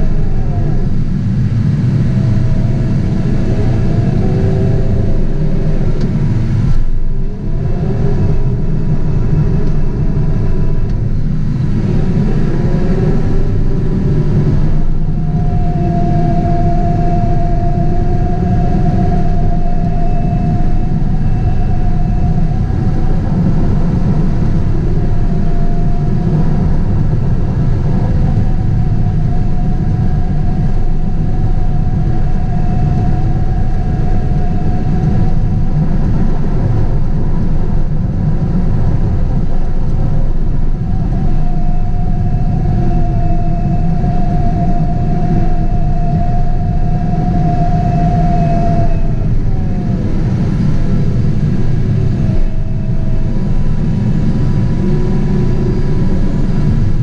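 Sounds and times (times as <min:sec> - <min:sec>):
machine whine: 0:00.0 - 0:57.0.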